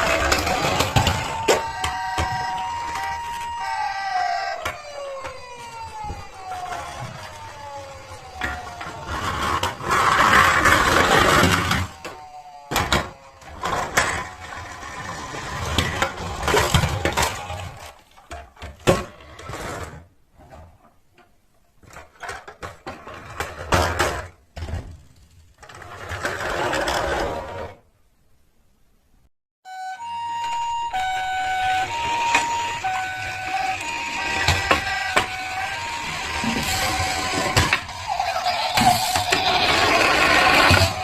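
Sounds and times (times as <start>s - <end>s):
toy car wheels whirring and rattling: 0.0s - 20.7s, 21.9s - 27.8s, 31.1s - 41.0s.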